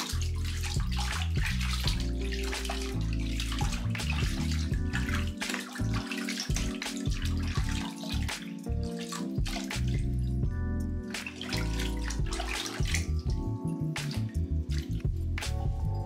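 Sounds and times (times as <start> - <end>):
water splashing in plastic tub: 0.0 - 15.8
background music with bass notes: 0.0 - 16.0.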